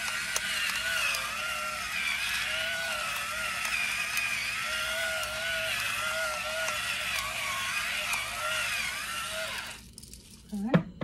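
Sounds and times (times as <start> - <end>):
electric pepper mill whine: 0.0 - 10.6.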